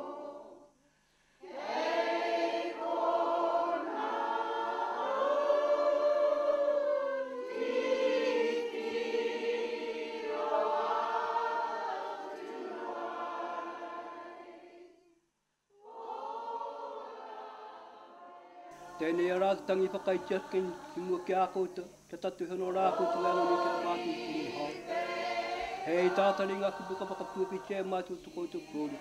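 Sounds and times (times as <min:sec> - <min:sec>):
group of voices singing: 0:00.0 - 0:00.7, 0:01.4 - 0:15.0, 0:15.8 - 0:29.0.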